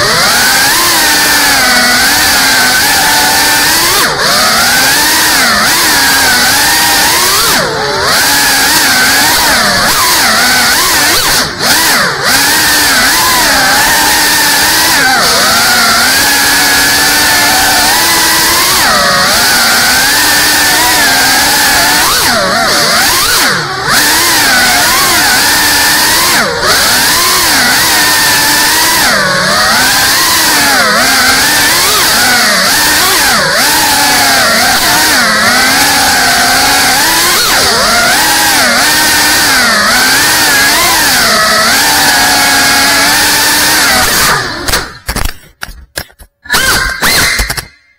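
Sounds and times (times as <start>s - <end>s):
drone motors whining: 0.0s - 47.9s.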